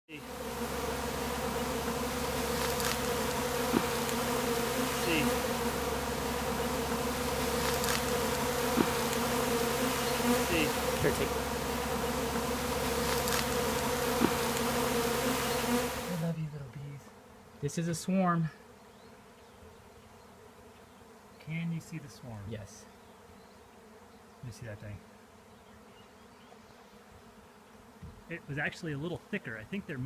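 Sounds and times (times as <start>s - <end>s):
bees buzzing: 0.1s - 30.0s.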